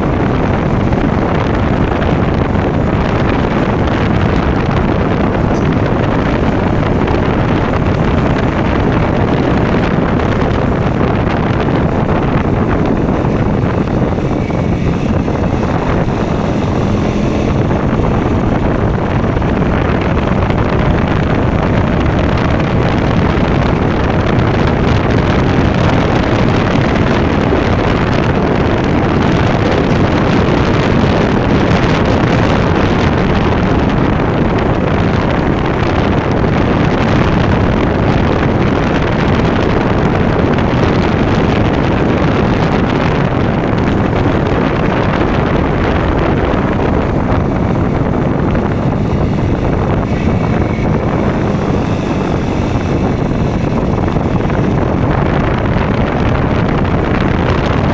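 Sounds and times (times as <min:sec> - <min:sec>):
motorcycle engine running: 0:00.0 - 0:57.9
wind noise on microphone: 0:00.0 - 0:57.9.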